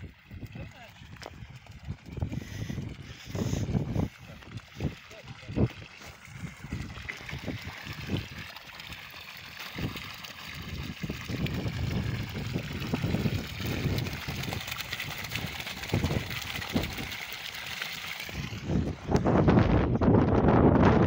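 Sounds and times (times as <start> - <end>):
water jetting into pool: 0.0 - 20.0.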